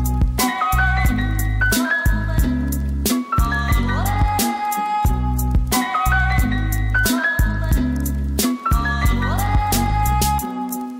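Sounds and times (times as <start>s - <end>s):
music with drum beat and bass: 0.0s - 10.9s.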